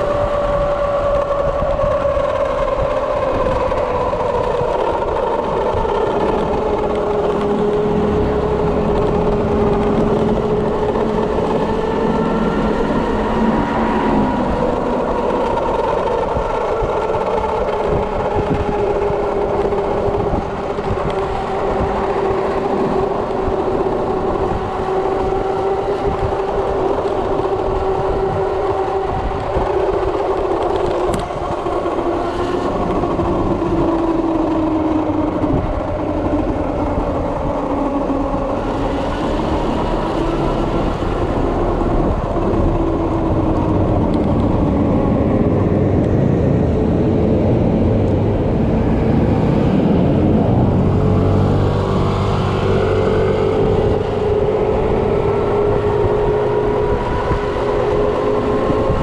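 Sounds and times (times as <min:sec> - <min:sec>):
electric motor whining: 0:00.0 - 0:59.0
wind and road noise: 0:00.0 - 0:59.0.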